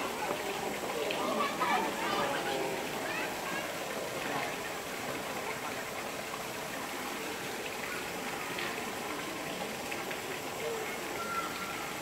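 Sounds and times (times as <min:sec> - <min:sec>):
faint voices: 0:00.0 - 0:12.0
running water: 0:00.0 - 0:12.0.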